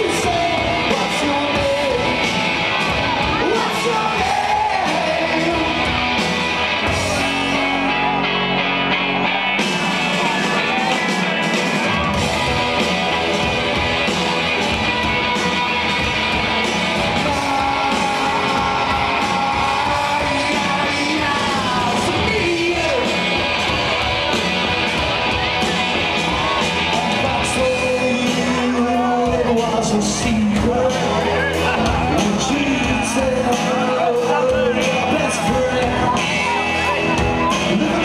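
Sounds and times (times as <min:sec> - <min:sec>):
man singing and shouting: 0:00.0 - 0:08.3, 0:09.6 - 0:38.0
rock band playing: 0:00.0 - 0:38.0.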